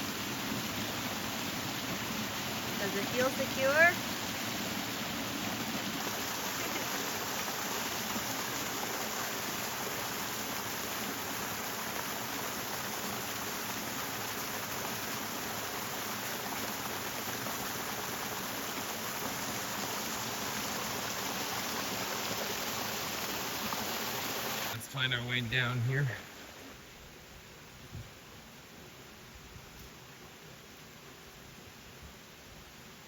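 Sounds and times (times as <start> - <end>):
waterfall rushing: 0.0 - 26.6.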